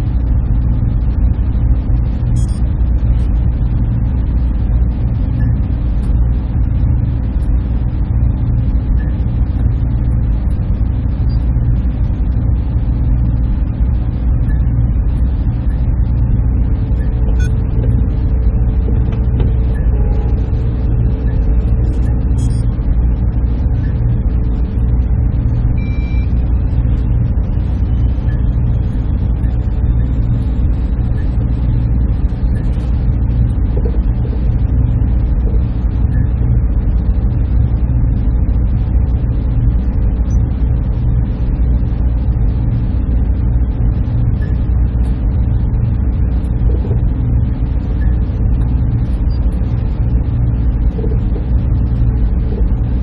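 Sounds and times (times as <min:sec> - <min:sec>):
server machinery low drone: 0:00.0 - 0:53.0.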